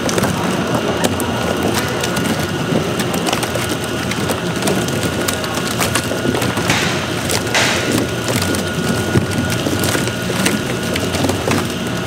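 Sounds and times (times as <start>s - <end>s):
machinery crackling clatter: 0.0s - 12.0s.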